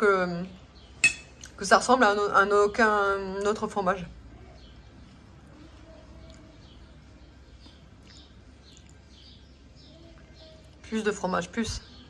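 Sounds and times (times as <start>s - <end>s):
low background hum: 0.0s - 12.0s
bird chirping: 0.2s - 1.6s, 2.6s - 12.0s.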